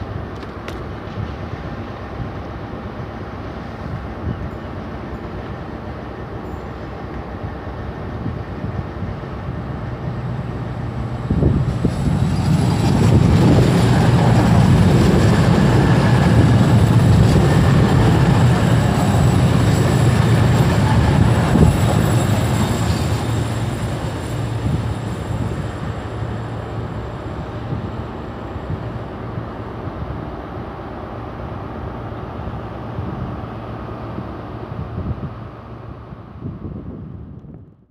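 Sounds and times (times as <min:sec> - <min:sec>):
diesel train engine drone: 0:00.0 - 0:37.9.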